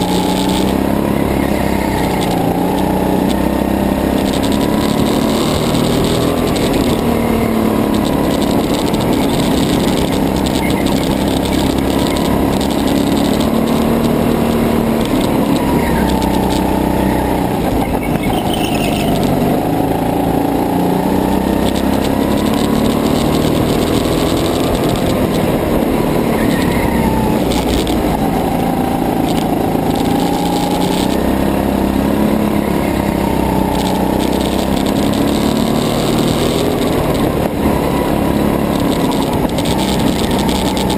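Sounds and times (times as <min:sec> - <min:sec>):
go-kart engine racing: 0:00.0 - 0:40.9.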